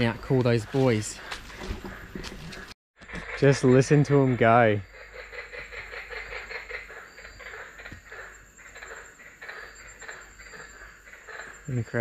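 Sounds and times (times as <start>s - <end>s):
tree frogs calling in chorus: 0.0s - 12.0s.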